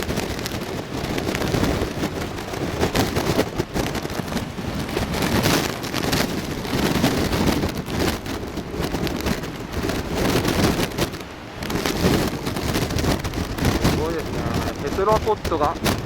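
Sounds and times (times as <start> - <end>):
heavy surf rushing: 0.0 - 16.0
wind buffeting microphone: 0.0 - 16.0.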